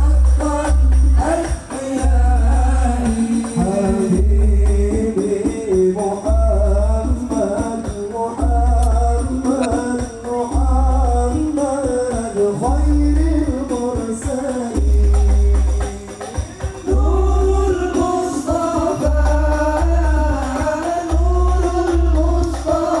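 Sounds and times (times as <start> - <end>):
music with singing: 0.0 - 23.0.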